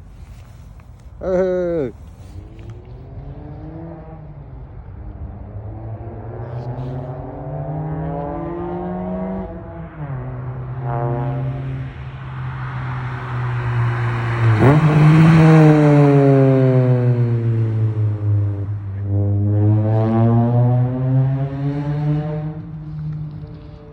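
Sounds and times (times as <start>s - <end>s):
car engine revving: 2.2s - 23.9s.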